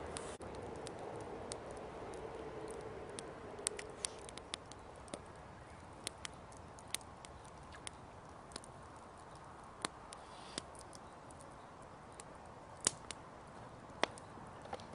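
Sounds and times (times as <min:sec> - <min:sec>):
campfire crackling: 0:00.0 - 0:14.9
faint steady hiss: 0:00.0 - 0:14.9.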